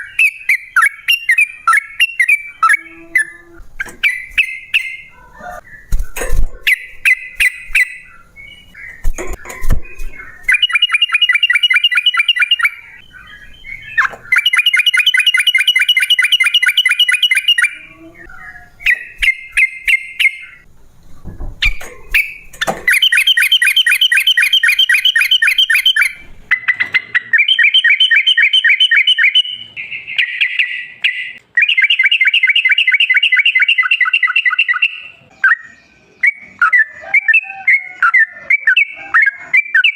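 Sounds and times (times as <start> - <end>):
bird chattering rattle song: 0.0 - 20.7, 21.6 - 35.7.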